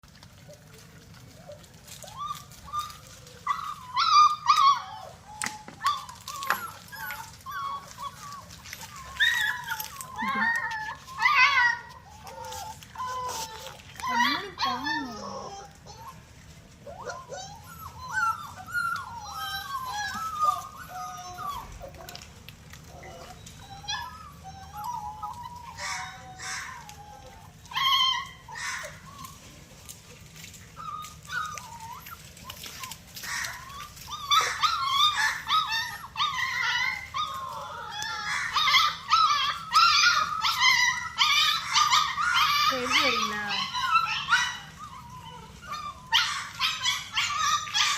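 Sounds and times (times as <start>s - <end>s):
puppies whimpering and squealing: 0.0s - 47.9s.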